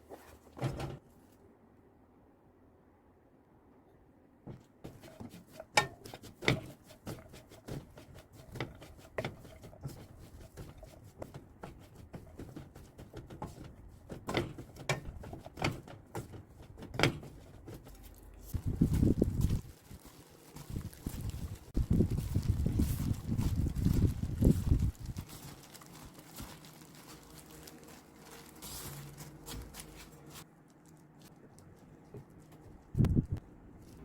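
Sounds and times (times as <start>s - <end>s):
noisy rustling: 4.4s - 34.0s.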